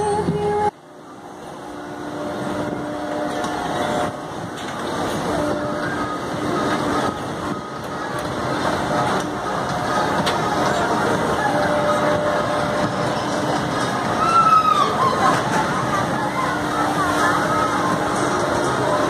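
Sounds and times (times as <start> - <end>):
dense steady rumble: 0.0 - 19.0
faint voices: 0.0 - 19.0.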